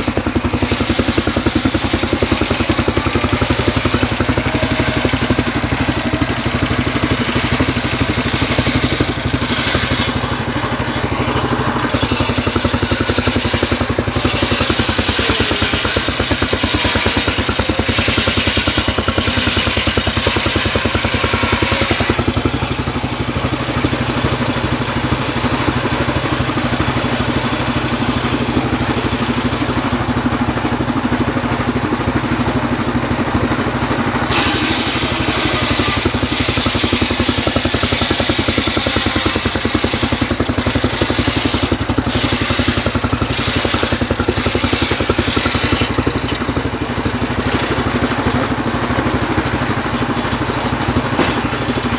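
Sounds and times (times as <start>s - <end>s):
circular saw blade cutting log: 0.0s - 51.9s
engine running steadily: 0.0s - 51.9s.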